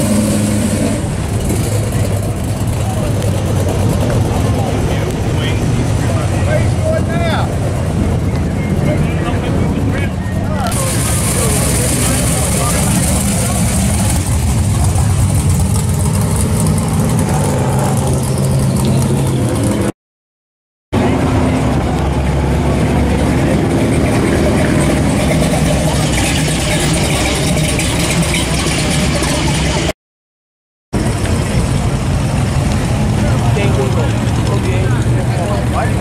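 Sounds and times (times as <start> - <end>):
car engines driving slowly past: 0.0 - 19.9, 21.0 - 29.9, 31.0 - 36.0.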